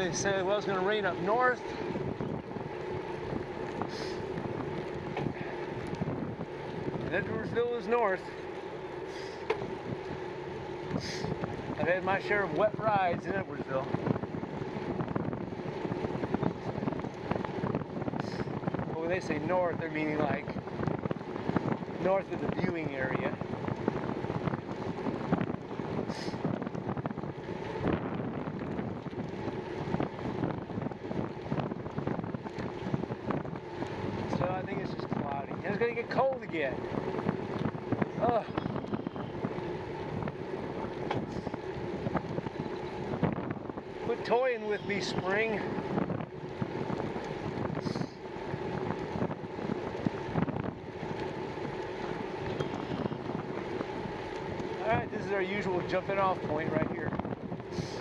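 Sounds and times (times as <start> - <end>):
bicycle tyre road rumble: 0.0 - 58.0
wind buffeting microphone: 0.0 - 58.0.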